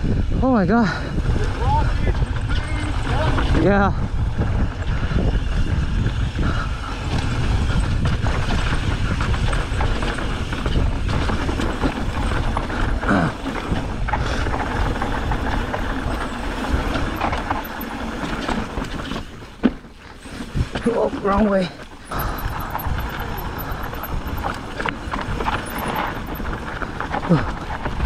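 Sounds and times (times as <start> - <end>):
wind buffeting microphone: 0.0 - 28.0
tyres rumbling on dirt: 0.7 - 28.0
bike frame and chain rattling: 0.8 - 28.0.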